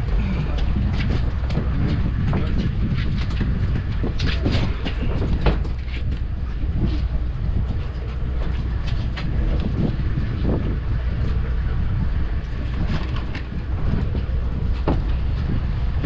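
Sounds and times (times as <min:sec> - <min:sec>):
boat machinery drone: 0:00.0 - 0:16.0.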